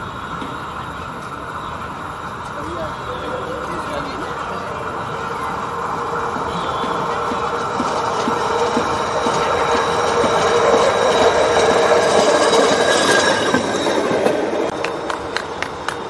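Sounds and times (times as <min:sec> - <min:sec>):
rail vehicle rolling hum: 0:00.0 - 0:16.0.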